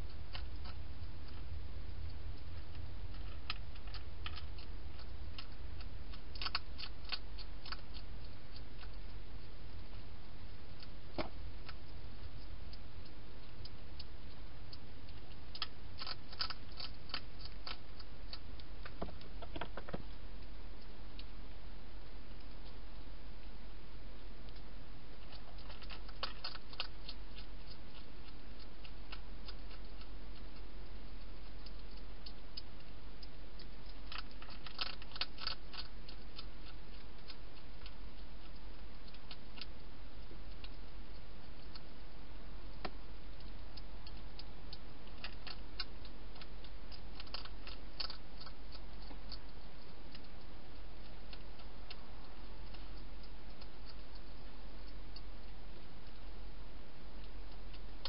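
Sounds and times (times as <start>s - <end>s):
hedgehog chewing dry food: 0.0s - 58.0s
low hum and hiss: 0.0s - 58.0s.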